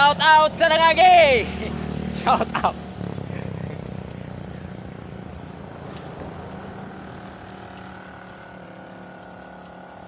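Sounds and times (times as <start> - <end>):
bike drivetrain clicking and whirring: 0.0 - 10.0.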